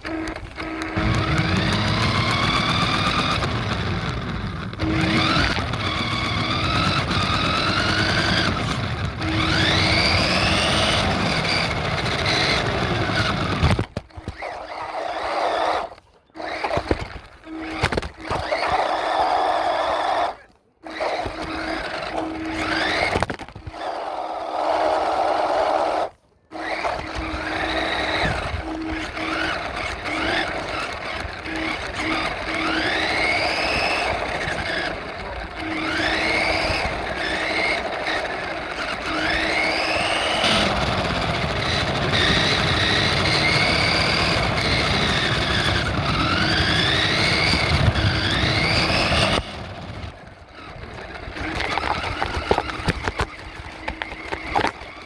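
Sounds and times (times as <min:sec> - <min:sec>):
toy truck motor whining: 0:00.0 - 0:55.0.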